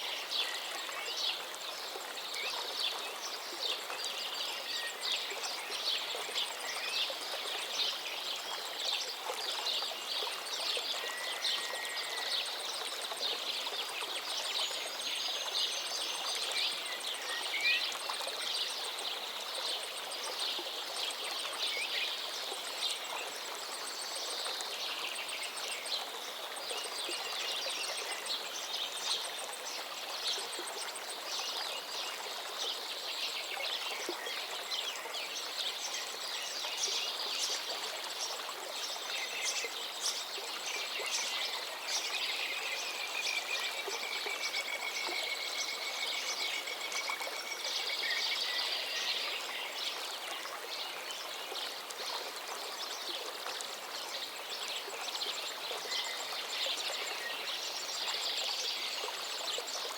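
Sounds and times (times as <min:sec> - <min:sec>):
river flowing: 0:00.0 - 0:59.9
songbirds singing: 0:00.0 - 0:59.9.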